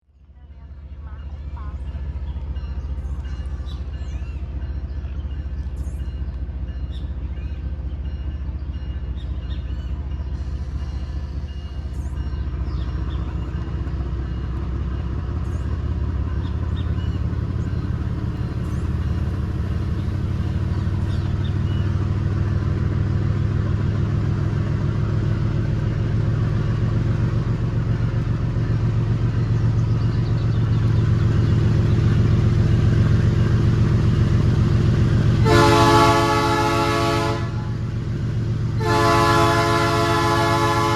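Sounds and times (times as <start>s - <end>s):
locomotive engine rumbling under load: 0.0s - 40.9s.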